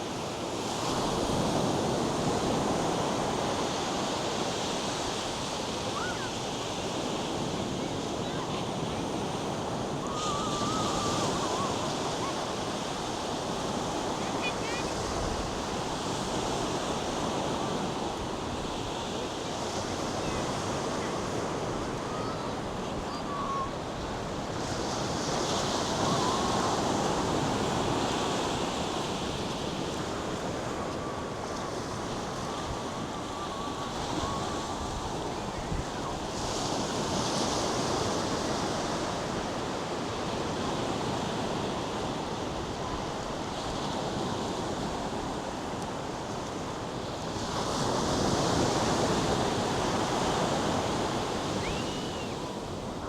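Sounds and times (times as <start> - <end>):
wind on microphone: 0.7 - 46.7.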